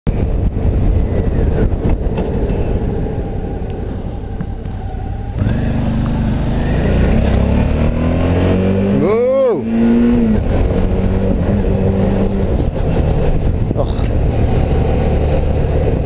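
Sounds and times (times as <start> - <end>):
motorcycle engine rumbling: 0.1 - 16.0.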